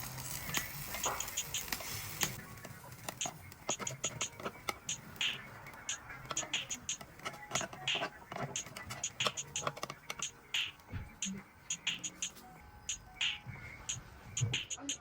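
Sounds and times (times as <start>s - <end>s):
light irregular clicks and taps: 0.5s - 15.0s.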